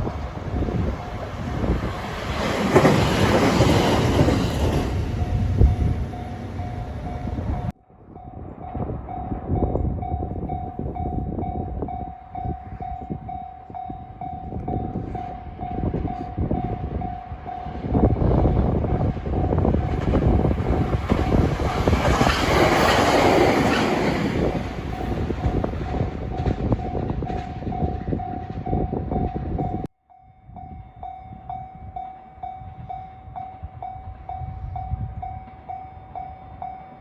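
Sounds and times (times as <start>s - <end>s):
electric train passing: 0.0s - 29.9s, 30.5s - 37.0s.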